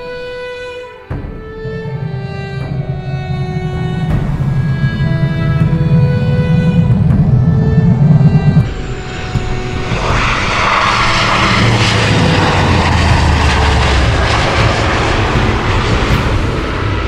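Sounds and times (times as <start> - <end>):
turboprop aircraft flying past: 1.7 - 17.0.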